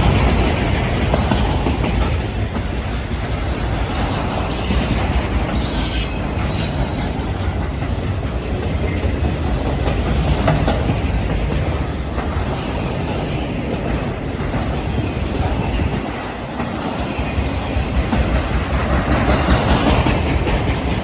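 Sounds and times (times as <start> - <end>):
train wheels clattering: 0.0 - 21.0.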